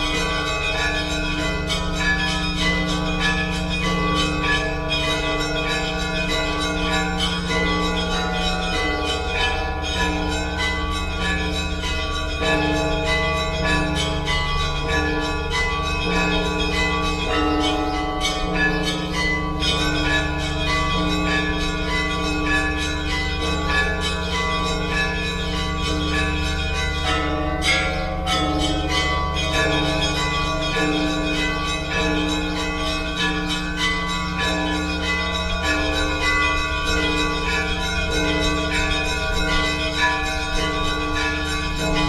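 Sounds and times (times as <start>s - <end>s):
large bell humming: 0.0s - 42.0s
small bells ringing: 0.0s - 42.0s.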